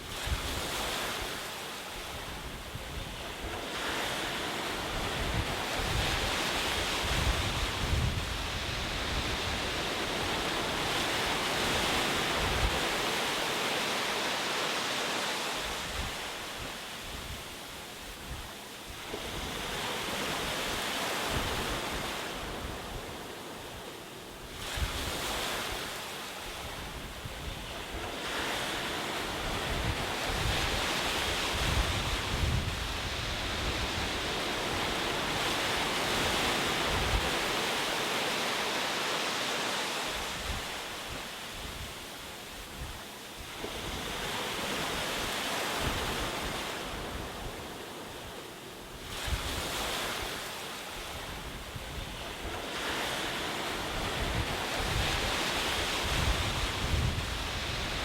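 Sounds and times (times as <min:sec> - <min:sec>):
ocean surf breaking: 0:00.0 - 0:17.7, 0:24.5 - 0:58.0
low rumble of surf: 0:00.0 - 0:58.0.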